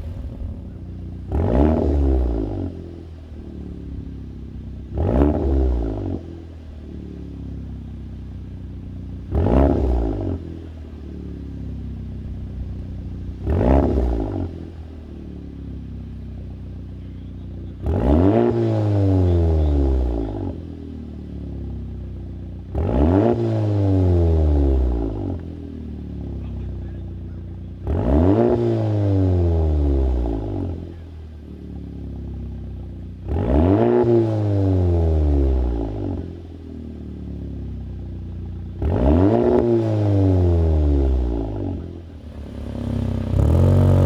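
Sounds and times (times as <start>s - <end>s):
car engine revving: 0.0s - 16.7s, 17.5s - 44.0s.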